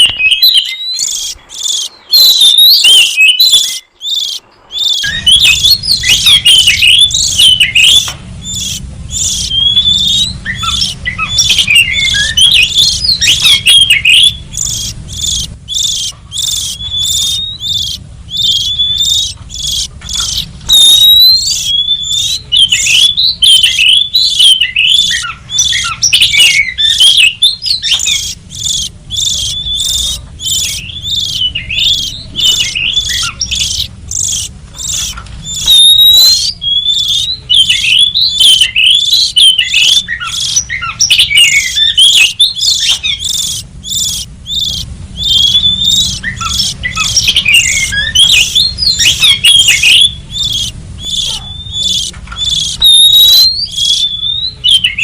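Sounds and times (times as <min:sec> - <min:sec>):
bird chirping and whistling: 0:00.0 - 0:55.0
faint low hum: 0:03.6 - 0:55.0.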